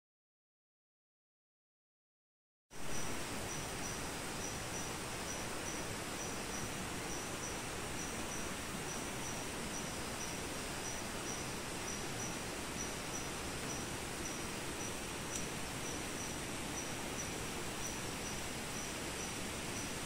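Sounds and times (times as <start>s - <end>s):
insects calling: 2.8s - 20.0s
steady rushing hiss: 2.8s - 20.0s.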